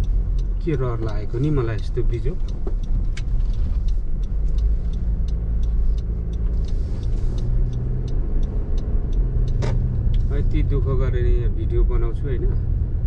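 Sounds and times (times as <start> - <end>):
car engine and road rumble: 0.0 - 13.0
light irregular ticking: 0.0 - 13.0.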